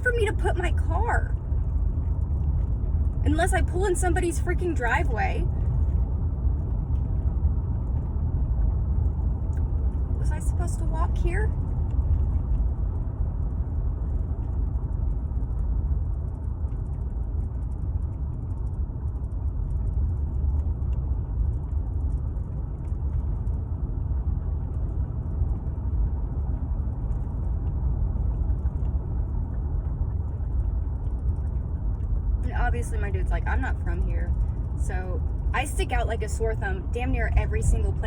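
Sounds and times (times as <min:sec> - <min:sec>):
car interior road noise: 0:00.0 - 0:38.0.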